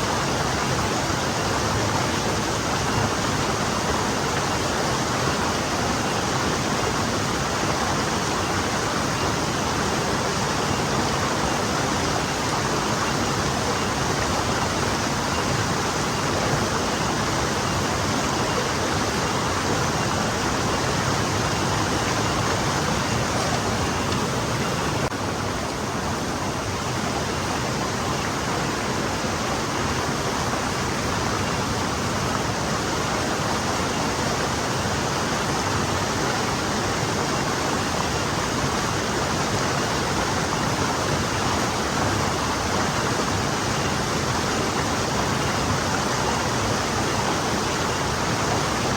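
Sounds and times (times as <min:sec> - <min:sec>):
stream flowing over stones: 0:00.0 - 0:48.9.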